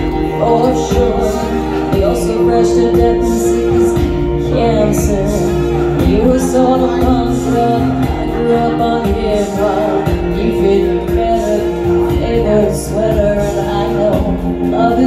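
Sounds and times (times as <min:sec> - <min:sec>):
backing track with steady beat: 0:00.0 - 0:15.0
woman singing karaoke: 0:00.0 - 0:15.0.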